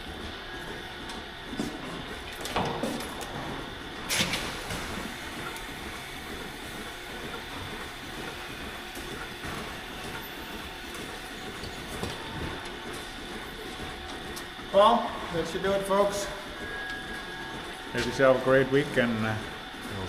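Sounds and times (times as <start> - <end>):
milking equipment running: 0.0 - 20.0.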